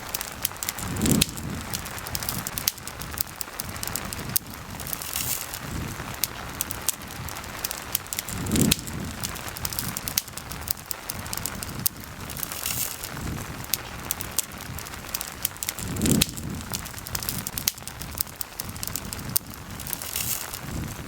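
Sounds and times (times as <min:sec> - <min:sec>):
campfire crackling and popping: 0:00.0 - 0:21.0
rain hissing: 0:00.0 - 0:21.0.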